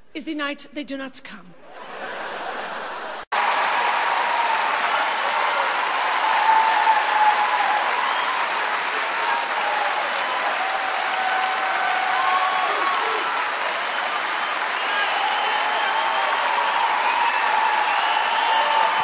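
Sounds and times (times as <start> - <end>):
audience clapping: 2.1 - 19.0.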